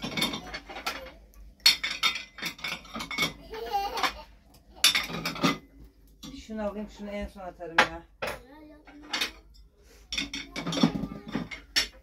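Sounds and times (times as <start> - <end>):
dishes clattering: 0.0 - 7.0, 7.7 - 12.0.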